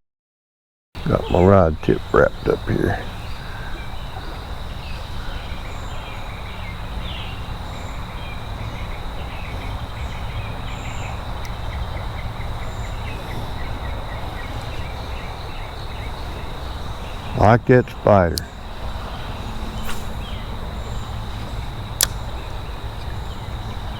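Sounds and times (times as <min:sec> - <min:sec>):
insect drone: 0:01.0 - 0:23.9.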